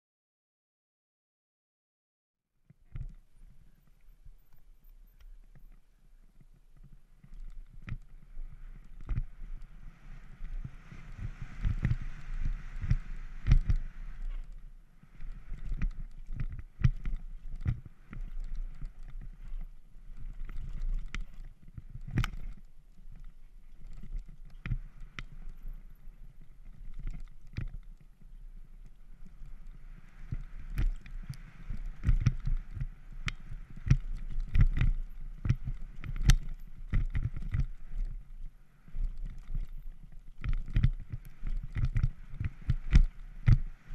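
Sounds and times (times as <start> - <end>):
wind rumble on microphone: 2.7 - 43.9
bike chain and suspension clicking: 6.4 - 38.4, 39.0 - 43.9.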